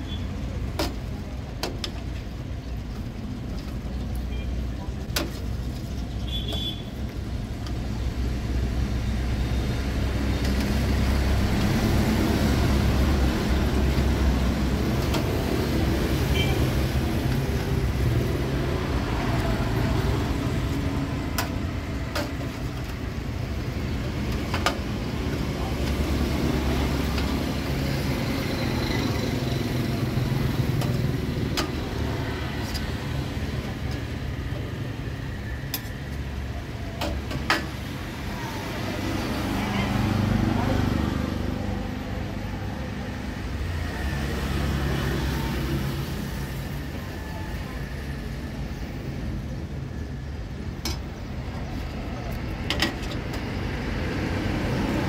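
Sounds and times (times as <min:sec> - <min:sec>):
street traffic rumble: 0:00.0 - 0:55.0.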